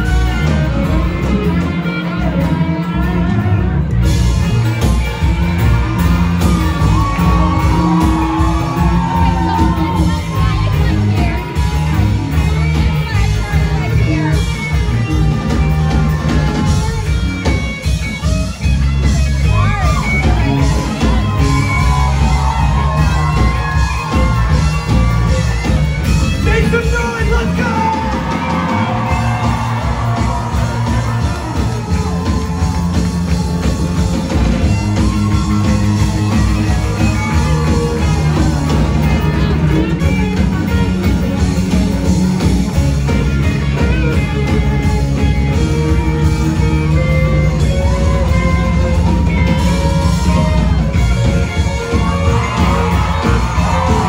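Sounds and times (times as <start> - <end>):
electric guitar lead lines: 0.0 - 54.0
live rock band playing: 0.0 - 54.0.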